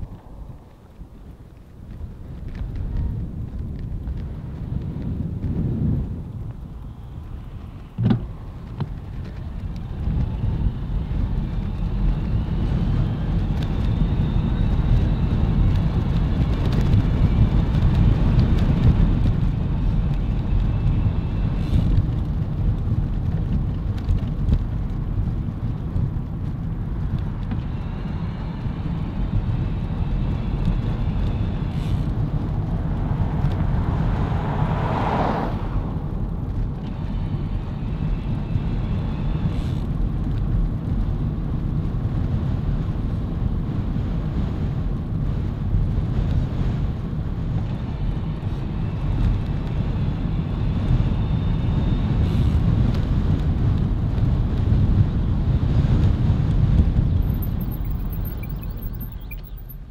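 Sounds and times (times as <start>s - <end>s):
bicycle road rumble: 0.0s - 59.9s
wind rush: 0.0s - 59.9s.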